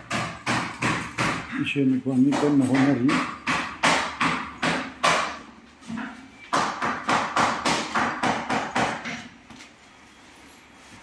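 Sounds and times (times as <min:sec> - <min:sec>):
hammer strikes: 0:00.0 - 0:09.4.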